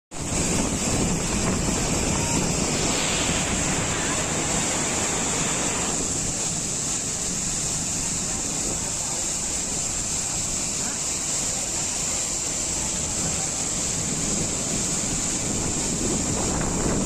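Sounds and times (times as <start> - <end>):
water rushing over spillway: 0.1 - 17.0.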